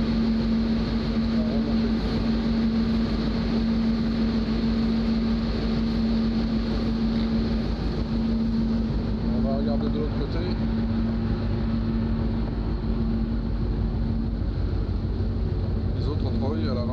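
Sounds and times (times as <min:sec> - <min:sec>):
ship's engine machinery droning: 0:00.0 - 0:16.9.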